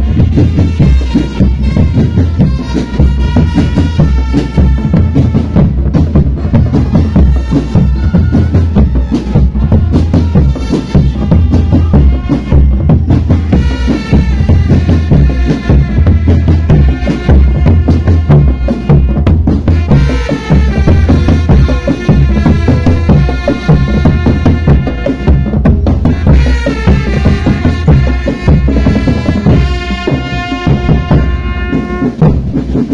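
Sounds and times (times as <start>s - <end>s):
bass and snare drums beating: 0.0s - 32.9s
drum band playing: 0.0s - 32.9s.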